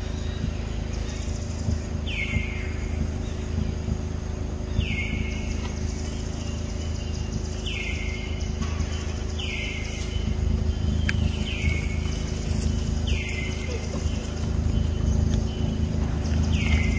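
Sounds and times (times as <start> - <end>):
low rumble: 0.0 - 16.9.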